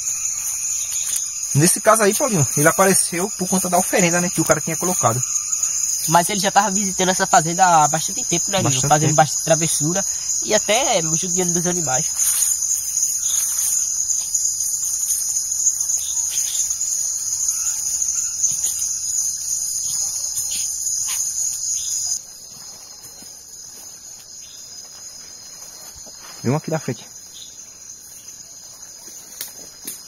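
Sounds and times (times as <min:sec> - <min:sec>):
night insects chorus: 0:00.0 - 0:30.0.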